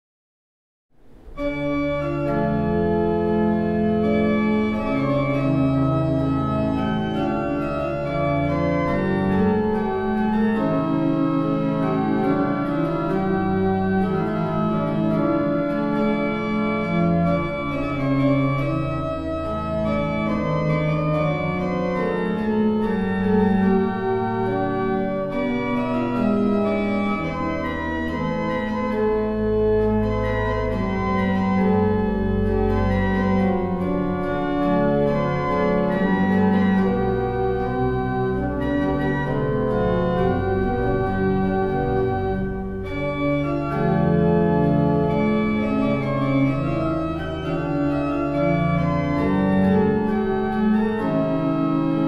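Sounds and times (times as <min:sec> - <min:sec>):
pipe organ playing chords: 0:01.0 - 0:52.0.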